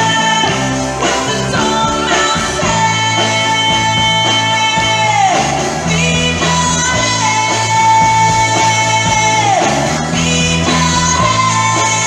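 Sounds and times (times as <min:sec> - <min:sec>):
electric guitars: 0:00.0 - 0:12.0
low backing: 0:00.0 - 0:12.0.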